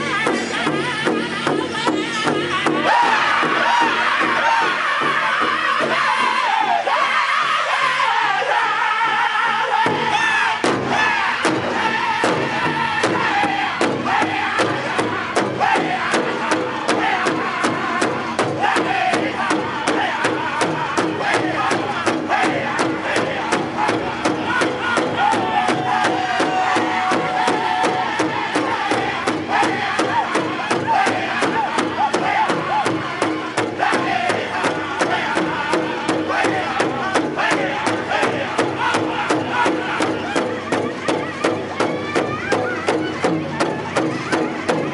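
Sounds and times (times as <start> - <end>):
large drum steady beat: 0.0 - 6.4, 9.8 - 44.9
group chanting vocals: 0.0 - 44.9.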